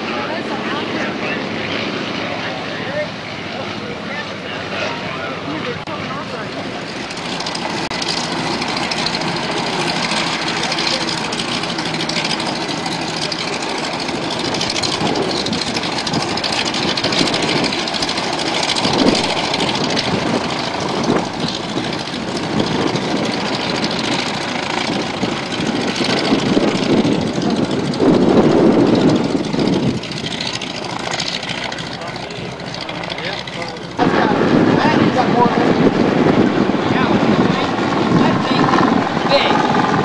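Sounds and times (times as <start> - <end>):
engine running: 0.0 - 40.0.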